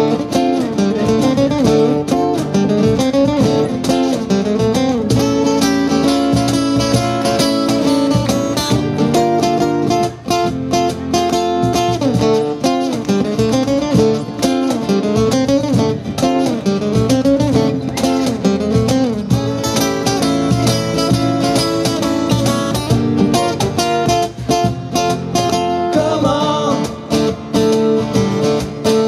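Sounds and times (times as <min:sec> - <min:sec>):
acoustic guitars strumming: 0:00.0 - 0:29.0
cajon beat: 0:00.0 - 0:29.0.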